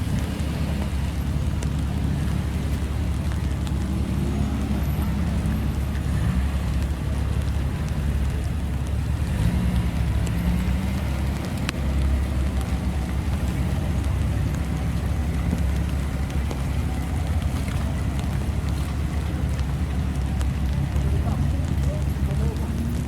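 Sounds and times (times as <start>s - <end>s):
car engine exhaust rumble: 0.0s - 23.0s.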